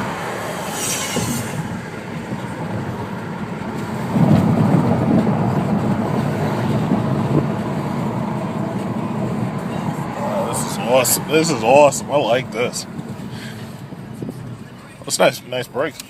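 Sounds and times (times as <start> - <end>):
car engine from inside cabin: 0.0 - 16.0
tyre road noise: 0.0 - 16.0.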